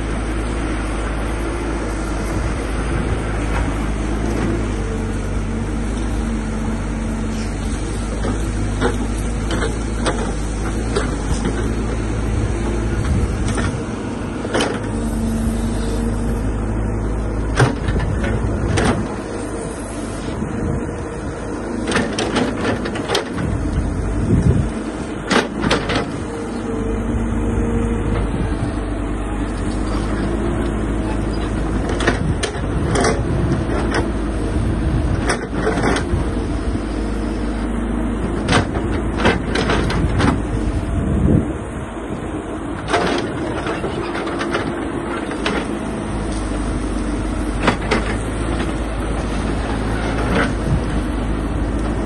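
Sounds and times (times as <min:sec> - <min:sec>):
excavator diesel engine: 0:00.0 - 0:52.0.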